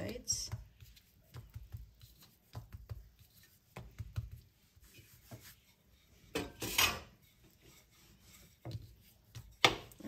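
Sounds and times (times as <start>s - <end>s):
hands patting dough: 0.0s - 6.4s, 7.1s - 10.0s
rolling pin rubbing over dough: 0.0s - 10.0s.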